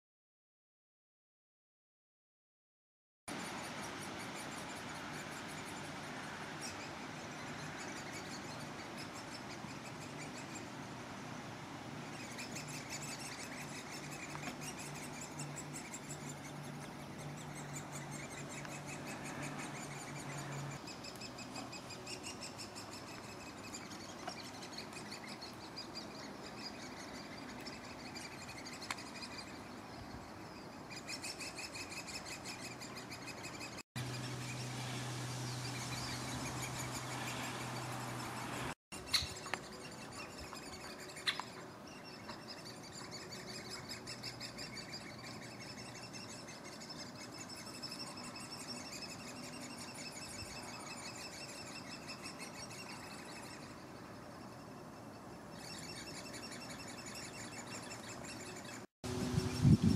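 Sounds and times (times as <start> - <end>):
woodpecker nestlings begging: 3.3 - 59.9.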